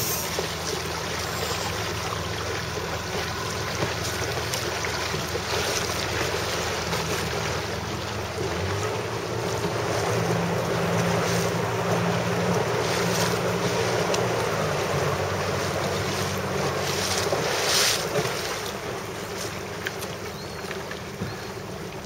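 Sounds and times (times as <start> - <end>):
water rushing and slapping: 0.0 - 22.0.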